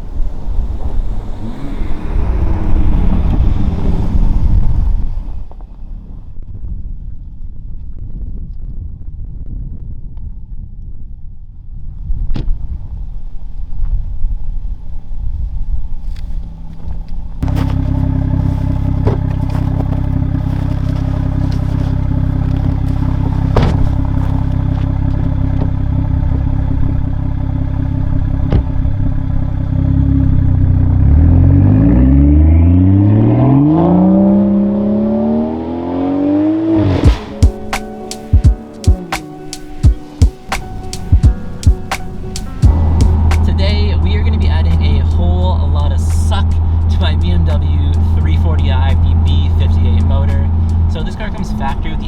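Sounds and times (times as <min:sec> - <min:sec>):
car engine revving: 0:00.0 - 0:06.1, 0:15.8 - 0:52.0.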